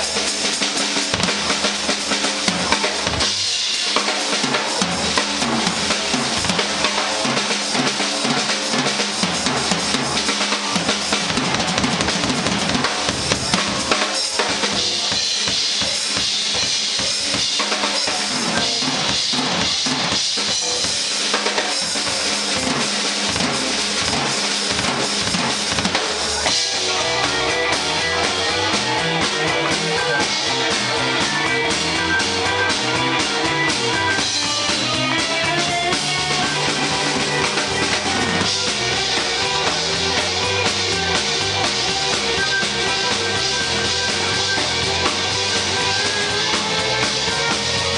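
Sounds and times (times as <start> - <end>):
band with electric guitar: 0.0 - 47.9
drum kit solo: 0.0 - 47.9.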